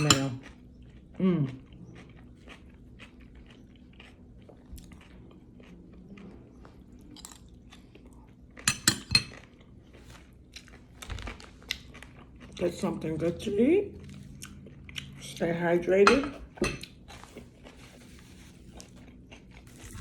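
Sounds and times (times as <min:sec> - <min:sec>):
chewing and crunching salad: 0:00.0 - 0:20.0.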